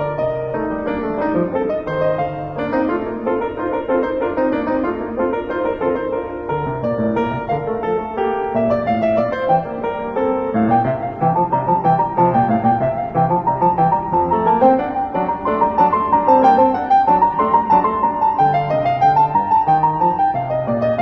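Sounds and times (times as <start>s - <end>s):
solo piano run: 0.0s - 21.0s.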